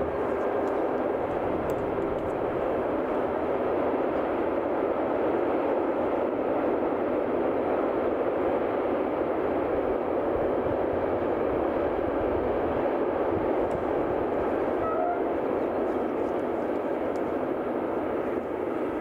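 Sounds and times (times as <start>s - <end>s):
distant train wheels on rails: 0.0s - 19.0s.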